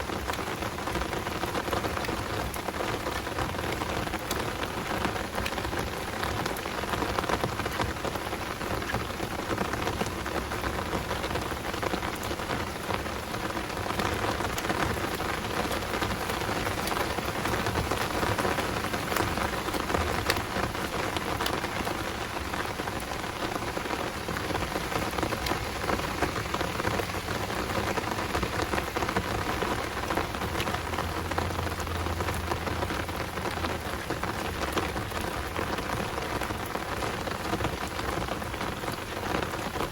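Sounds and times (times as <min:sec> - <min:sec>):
heavy rain falling: 0:00.0 - 0:39.9
raindrops ticking: 0:00.0 - 0:39.9.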